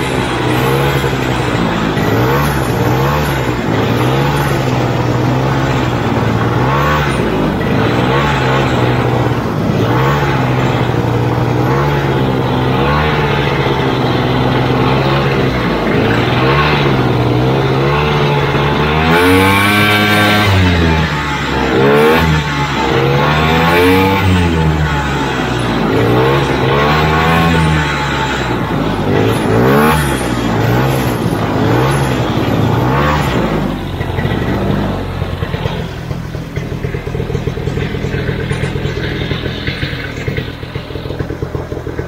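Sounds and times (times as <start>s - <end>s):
snowmobile two-stroke engine revving: 0.0s - 42.0s.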